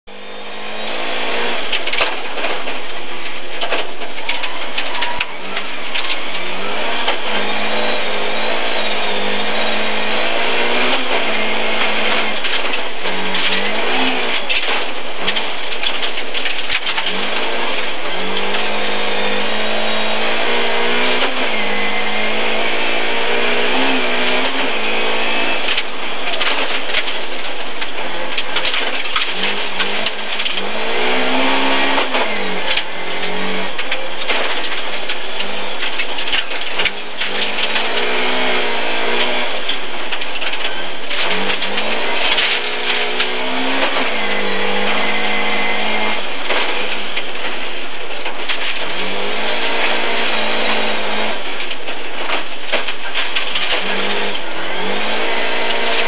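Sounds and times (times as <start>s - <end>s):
rally car engine revving: 0.0s - 56.0s
tyre and gravel noise: 0.2s - 56.0s.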